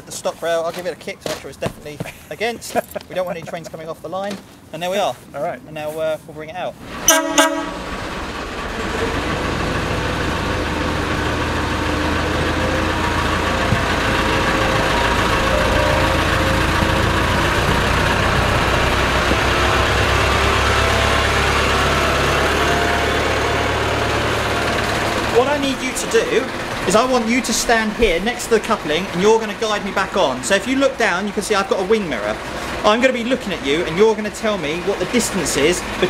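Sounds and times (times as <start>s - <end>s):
diesel locomotive engine humming: 6.6s - 36.0s.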